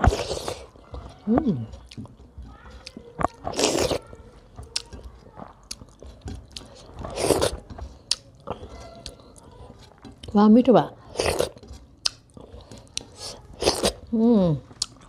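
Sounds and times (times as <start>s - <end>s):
wet chewing and lip smacks: 0.0s - 10.4s, 11.0s - 15.0s
fingers mixing food on a plate: 0.0s - 15.0s.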